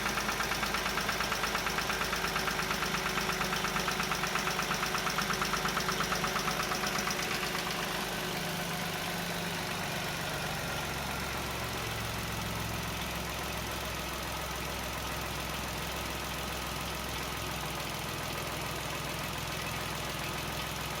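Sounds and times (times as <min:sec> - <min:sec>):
car engine idling: 0:00.0 - 0:21.0
engine knocking: 0:00.0 - 0:21.0.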